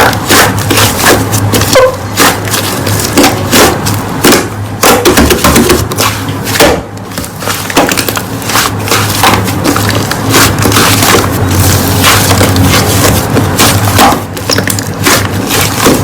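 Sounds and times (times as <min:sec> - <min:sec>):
slime crackling squishes: 0:00.0 - 0:04.4, 0:05.3 - 0:16.0.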